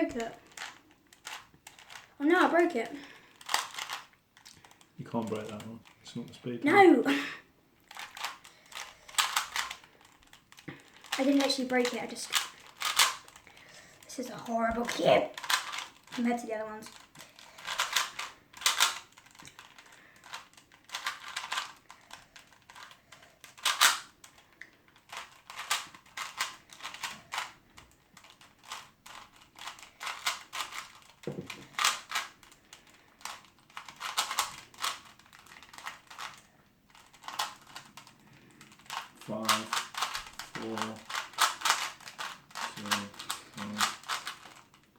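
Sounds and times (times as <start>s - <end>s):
plastic puzzle cube clicking: 0.1s - 2.2s, 3.1s - 6.4s, 7.8s - 44.9s.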